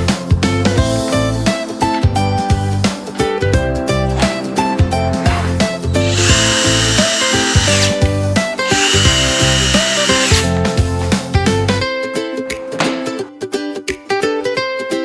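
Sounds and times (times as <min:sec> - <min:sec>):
upbeat background music: 0:00.0 - 0:15.0.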